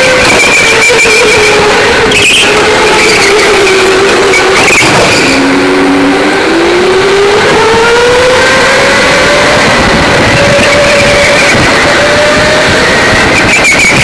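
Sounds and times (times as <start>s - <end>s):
electric go-kart motor whining: 0.0s - 14.0s
wind and track noise: 0.0s - 14.0s.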